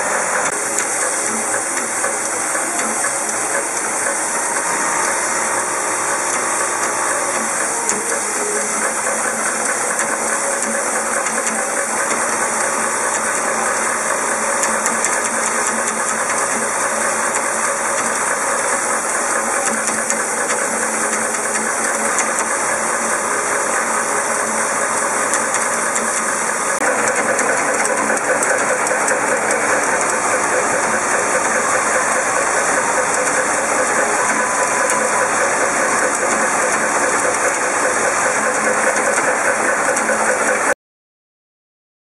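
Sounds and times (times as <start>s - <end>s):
assembly machine clattering: 0.0s - 40.7s.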